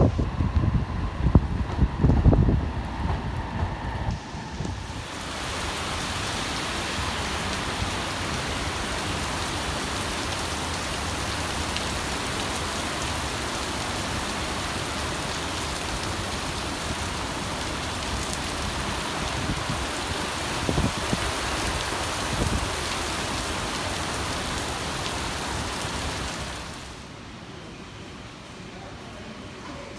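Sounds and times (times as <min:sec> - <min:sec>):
heavy rain falling: 0:00.0 - 0:27.2.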